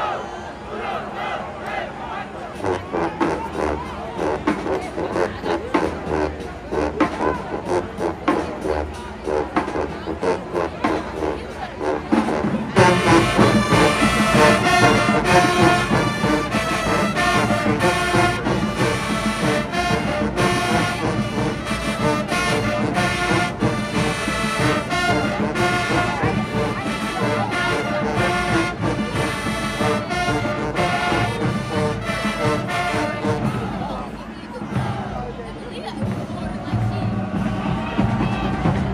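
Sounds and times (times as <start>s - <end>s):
brass playing a tune: 2.6s - 34.2s
marching drum beat: 2.9s - 34.0s, 36.0s - 38.9s.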